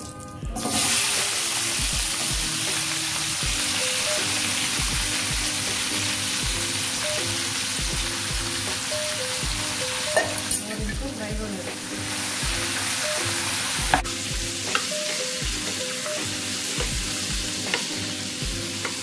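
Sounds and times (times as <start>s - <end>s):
vegetables sizzling in hot oil: 0.5s - 19.0s.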